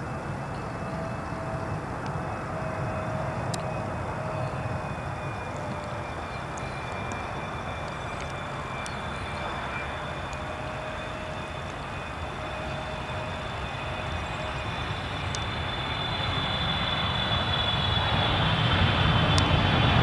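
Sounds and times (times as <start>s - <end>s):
airliner engines on approach: 0.0s - 20.0s.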